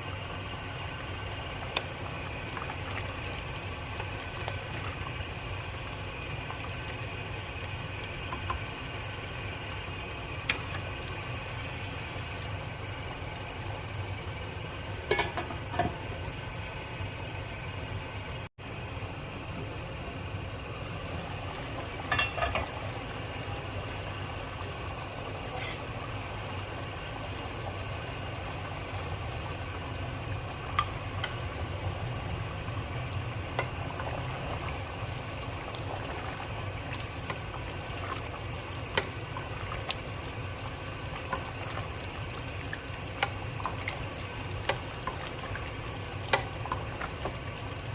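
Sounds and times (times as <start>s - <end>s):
pot cooking with rumble and hiss: 0.0s - 47.9s.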